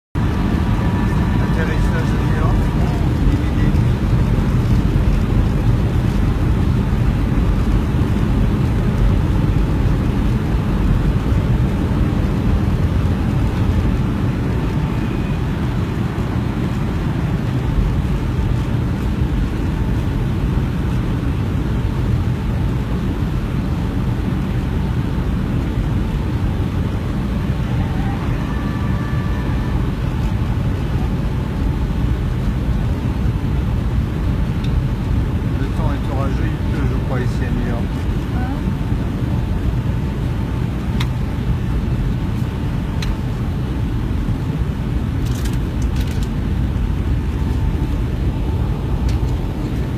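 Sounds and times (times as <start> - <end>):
airliner engine roar in cabin: 0.1 - 49.9.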